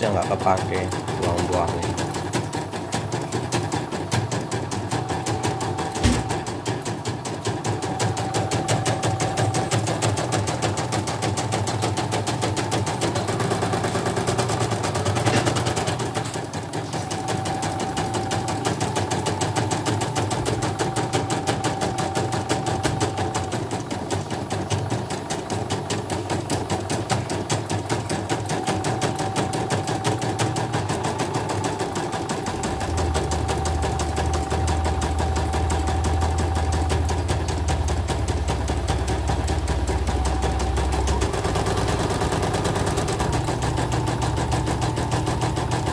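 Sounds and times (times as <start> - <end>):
embroidery machine needle clatter: 0.0 - 45.9
machine whine: 0.0 - 45.9.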